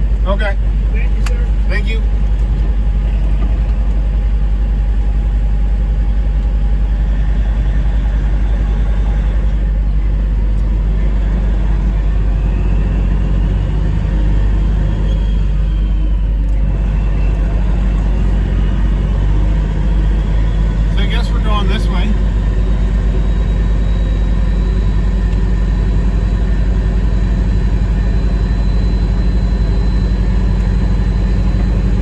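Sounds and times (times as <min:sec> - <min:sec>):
diesel truck engine rumble: 0:00.0 - 0:32.0.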